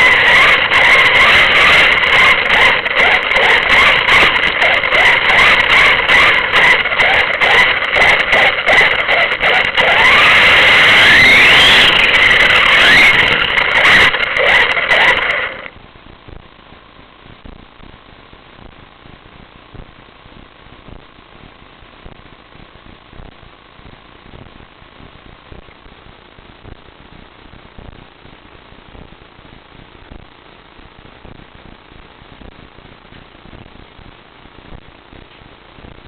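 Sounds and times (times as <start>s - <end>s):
crackling vehicle noise: 0.0s - 36.0s.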